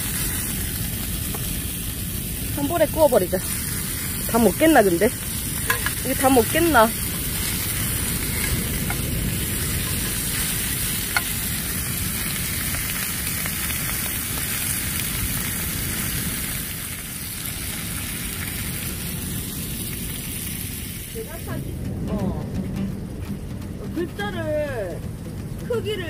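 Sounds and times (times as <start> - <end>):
meat sizzling in a pan: 0.0 - 21.5.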